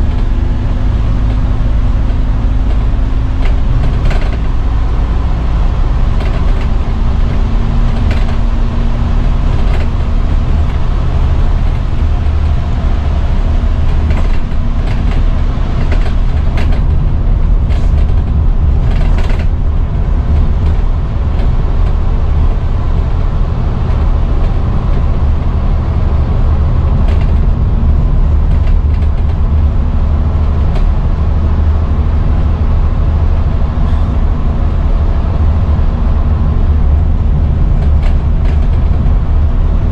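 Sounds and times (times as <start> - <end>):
bus body rattles and clicks: 0.0 - 39.9
bus diesel engine drone: 0.0 - 39.9
road noise: 0.0 - 39.9.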